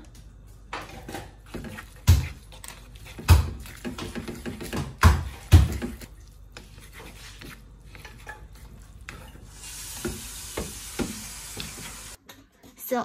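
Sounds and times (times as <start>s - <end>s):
chopsticks scraping a frying pan: 1.5s - 12.2s.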